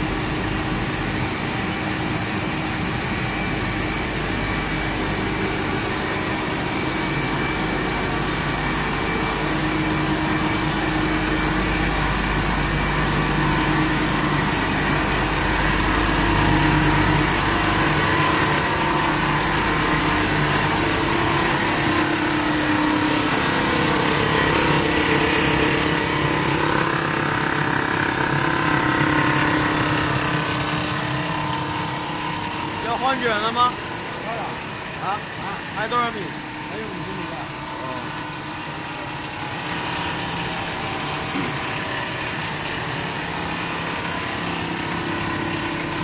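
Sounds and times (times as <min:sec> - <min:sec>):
factory machinery hum: 0:00.0 - 0:46.0.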